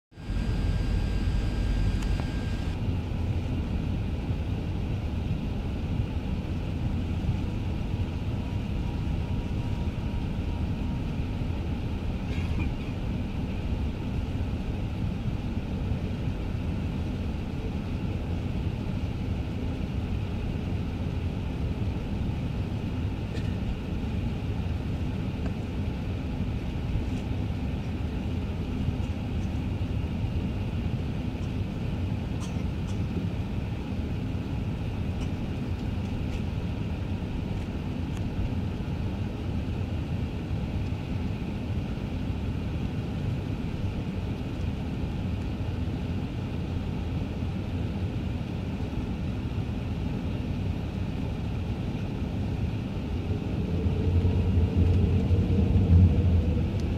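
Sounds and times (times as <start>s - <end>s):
aircraft cabin engine rumble: 0.2s - 56.9s.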